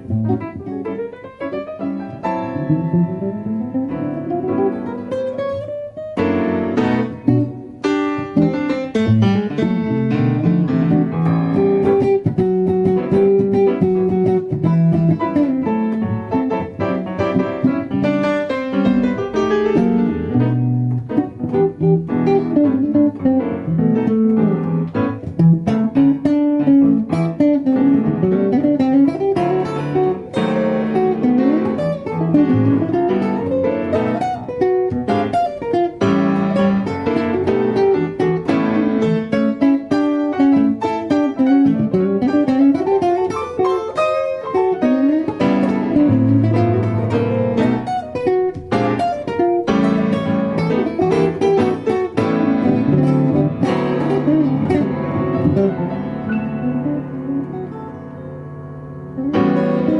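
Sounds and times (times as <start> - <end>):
blues guitar playing: 0.0 - 59.9.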